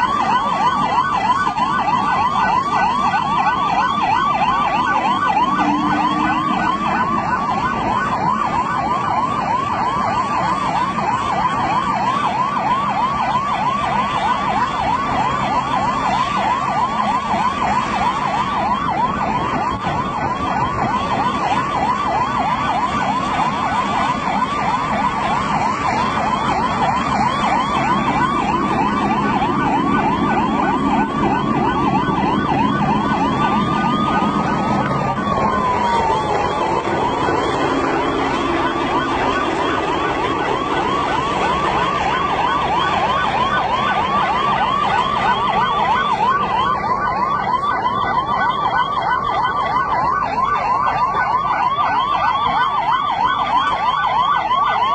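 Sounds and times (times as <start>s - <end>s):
ambulance siren wailing: 0.0s - 54.9s.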